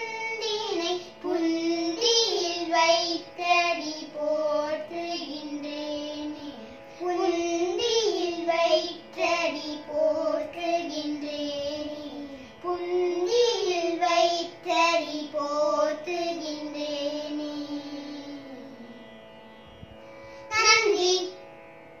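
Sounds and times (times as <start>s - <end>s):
girls singing devotional song: 0.0s - 18.8s
steady drone: 0.0s - 22.0s.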